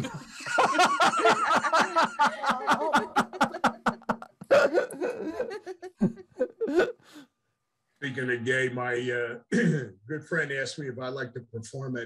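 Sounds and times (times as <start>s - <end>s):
person laughing: 0.0s - 7.2s, 8.1s - 11.5s.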